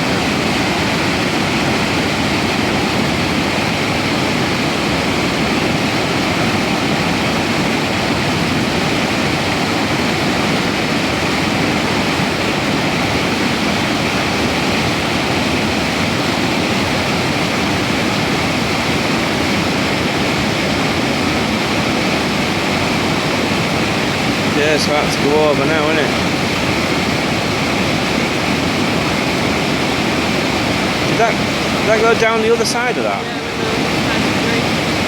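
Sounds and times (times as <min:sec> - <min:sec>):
water roaring over weir: 0:00.0 - 0:35.0.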